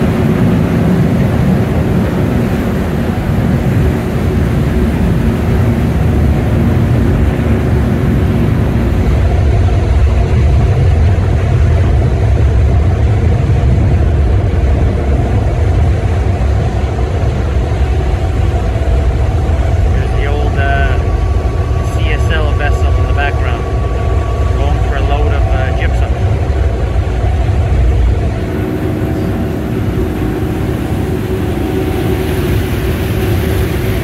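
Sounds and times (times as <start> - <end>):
propeller wash churning: 0.0 - 34.0
ship engine rumble: 0.0 - 34.0
steady hum: 0.0 - 34.0.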